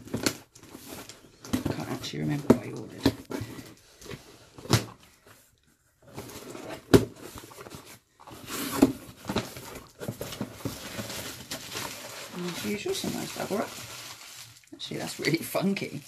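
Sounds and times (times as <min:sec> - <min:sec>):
cardboard rustling and scraping: 0:00.0 - 0:14.6.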